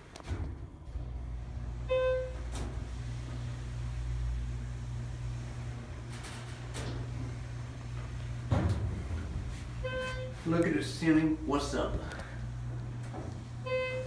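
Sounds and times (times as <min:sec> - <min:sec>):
elevator pump motor hum: 0:00.0 - 0:14.0.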